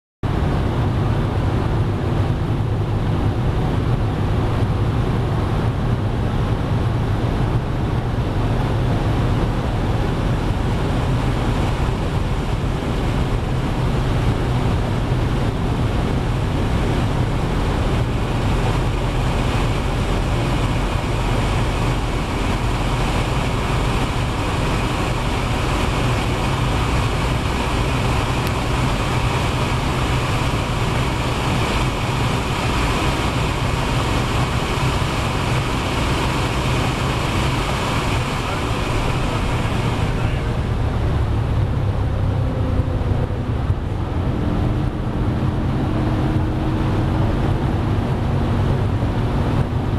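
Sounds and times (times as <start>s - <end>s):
deep engine drone: 0.2s - 49.9s.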